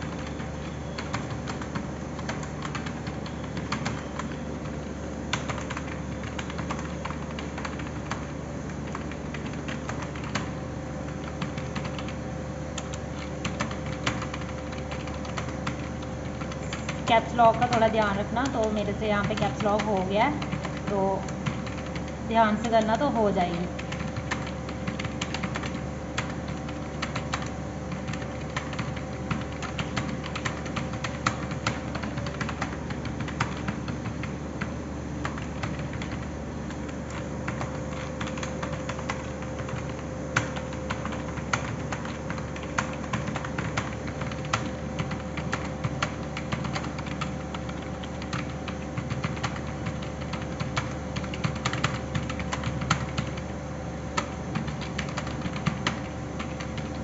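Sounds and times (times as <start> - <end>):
typing on a keyboard: 0.0 - 57.0.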